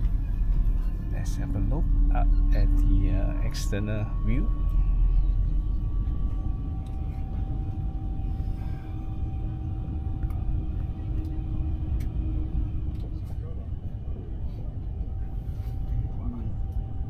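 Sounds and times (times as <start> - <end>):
faint steady whine: 0.0 - 17.0
train cabin rumble: 0.0 - 17.0.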